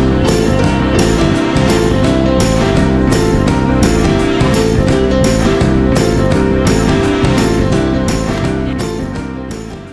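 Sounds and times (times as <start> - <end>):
plucked strings: 0.0 - 8.8
background music with steady beat: 0.0 - 9.9.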